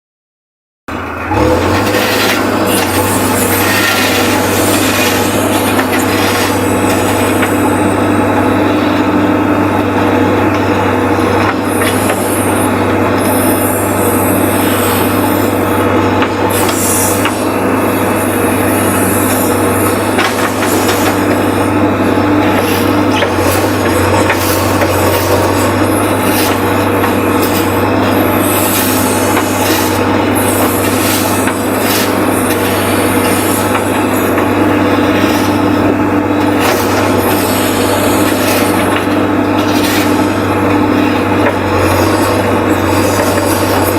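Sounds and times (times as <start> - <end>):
diesel engine running under load: 0.9 - 43.9
harsh scraping: 1.3 - 9.1, 9.9 - 43.9.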